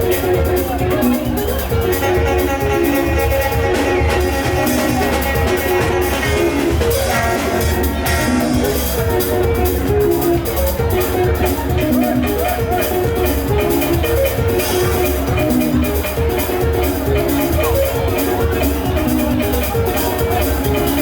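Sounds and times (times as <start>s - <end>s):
live band music: 0.0s - 21.0s.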